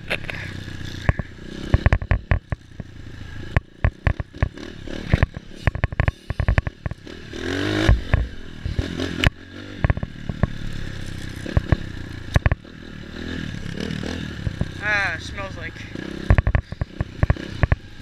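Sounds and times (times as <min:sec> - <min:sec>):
dirt bike engine: 0:00.0 - 0:18.0.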